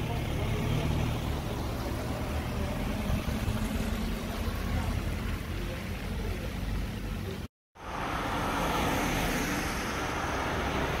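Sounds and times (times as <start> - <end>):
road traffic rumbling: 0.0 - 11.0.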